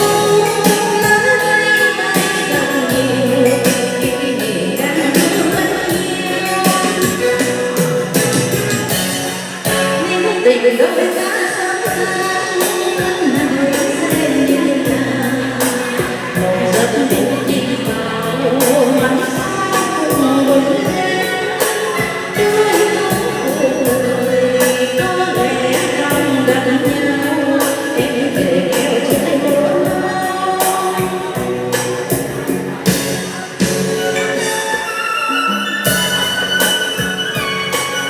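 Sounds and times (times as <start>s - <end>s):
person singing a melody: 0.0s - 32.3s
backing track with steady beat: 0.0s - 38.0s.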